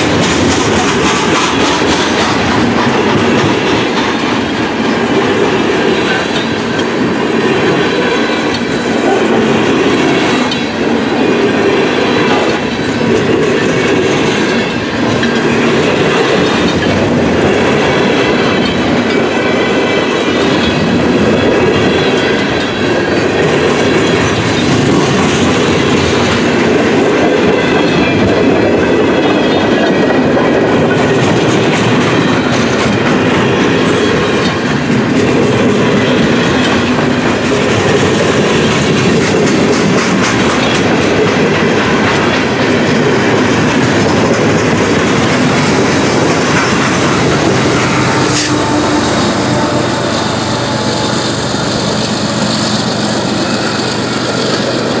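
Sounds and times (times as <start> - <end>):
clickety-clack over rail joints: 0.0 - 55.0
train wheels rumbling on rail: 0.0 - 55.0.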